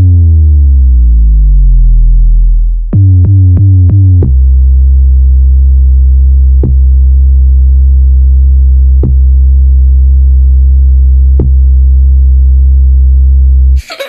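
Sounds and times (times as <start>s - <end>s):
deep synth bass note: 0.0s - 13.8s.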